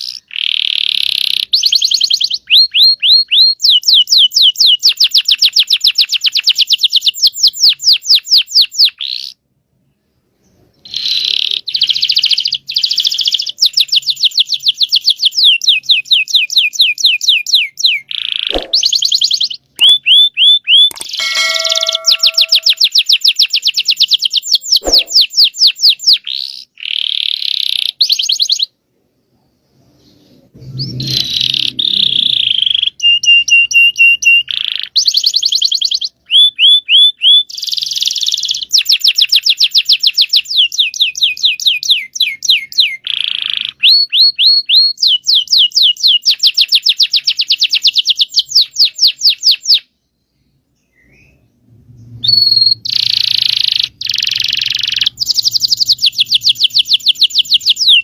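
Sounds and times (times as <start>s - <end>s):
canary singing trilled song: 0.0s - 9.4s, 10.5s - 28.7s, 30.6s - 50.0s, 50.8s - 58.0s.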